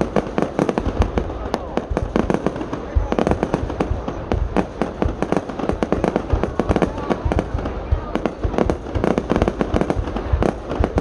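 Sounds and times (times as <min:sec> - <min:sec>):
fireworks bangs and booms: 0:00.0 - 0:11.0.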